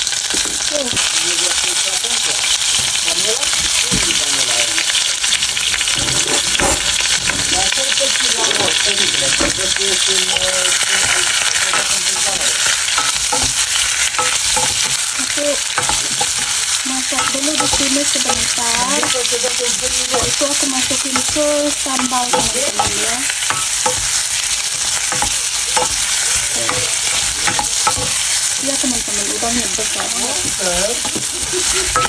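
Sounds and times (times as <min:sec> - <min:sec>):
shrimp sizzling in oil: 0:00.0 - 0:32.0
utensil stirring in pan: 0:00.0 - 0:32.0.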